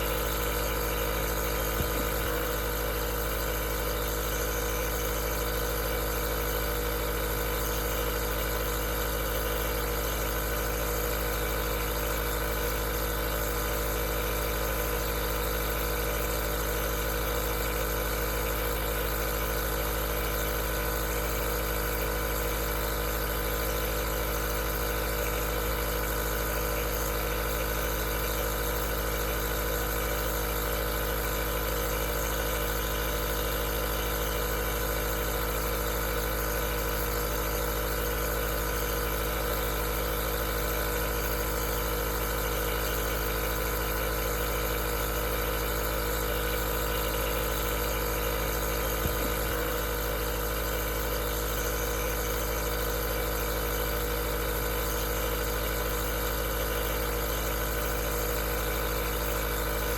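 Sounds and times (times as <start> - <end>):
nebulizer compressor humming: 0.0 - 59.9.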